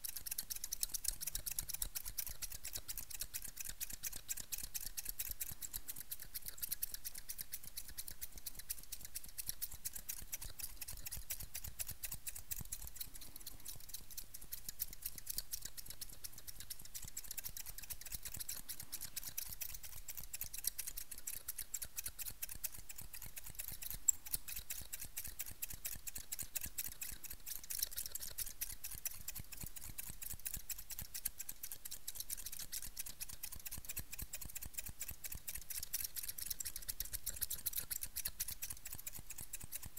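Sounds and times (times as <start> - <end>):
scissors snipping: 0.0 - 39.9.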